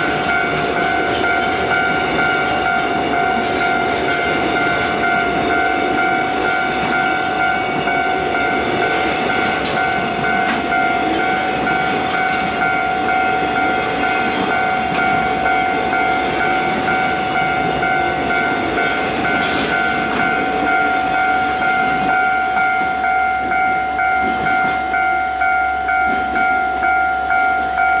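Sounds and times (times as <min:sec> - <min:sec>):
freight train wagons rumbling: 0:00.0 - 0:28.0
pulsing ringing tone: 0:00.0 - 0:28.0.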